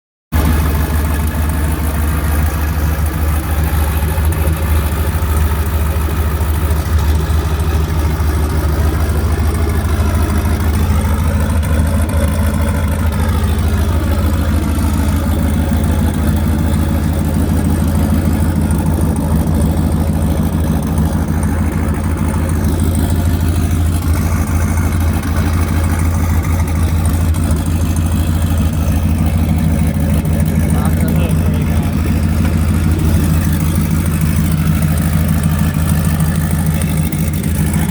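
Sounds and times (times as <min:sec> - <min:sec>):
car engine idling: 0:00.3 - 0:37.9.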